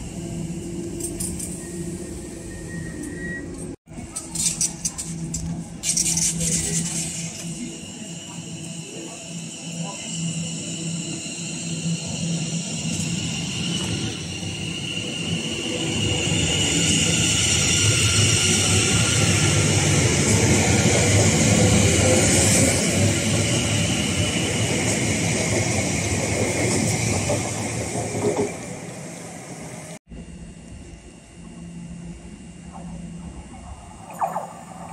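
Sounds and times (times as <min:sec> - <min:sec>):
train electric whine: 0:00.0 - 0:34.9.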